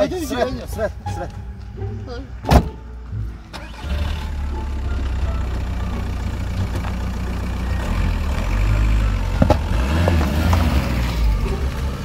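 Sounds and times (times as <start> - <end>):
car engine idling: 0.9 - 12.0.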